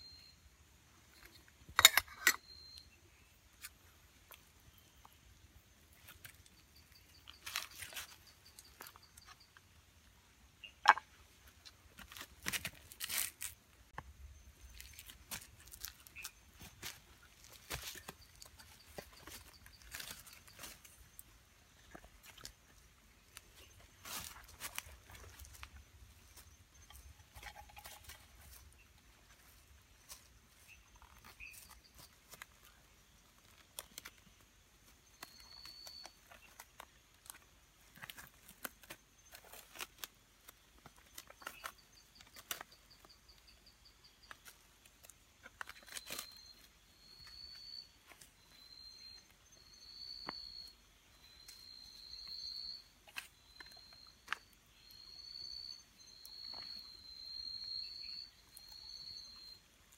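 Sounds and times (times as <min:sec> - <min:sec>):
insect chirping trills: 0:00.0 - 0:59.9.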